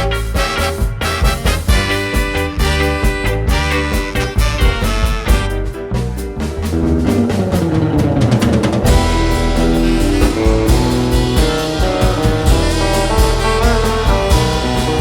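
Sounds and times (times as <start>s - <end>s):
ska band playing: 0.0s - 15.0s.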